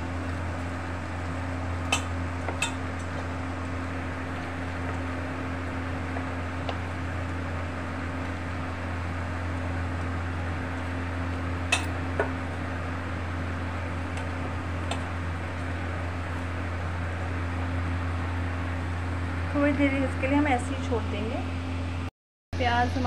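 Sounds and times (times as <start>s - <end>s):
low hum and hiss: 0.0s - 23.0s.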